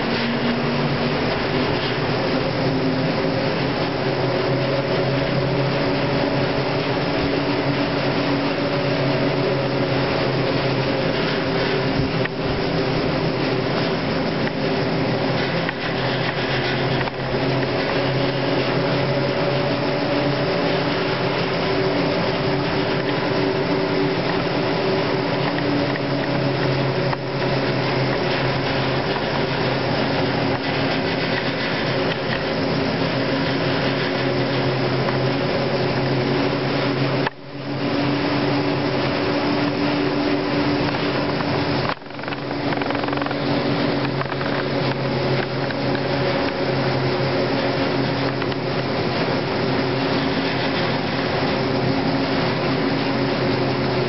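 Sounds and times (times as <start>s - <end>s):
cable car mechanical hum: 0.0s - 54.0s.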